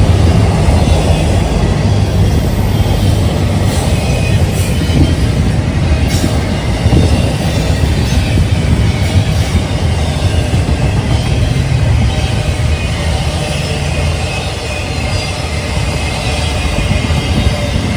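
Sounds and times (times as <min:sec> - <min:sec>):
train wheels rumbling on rails: 0:00.0 - 0:17.9.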